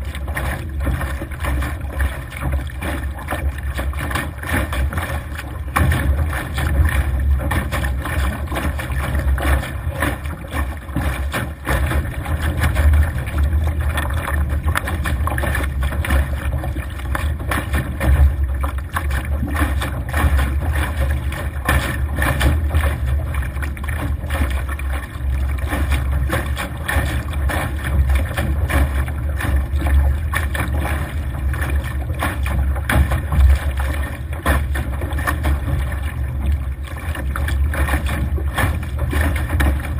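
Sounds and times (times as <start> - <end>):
water splashing along boat hull: 0.0 - 39.9.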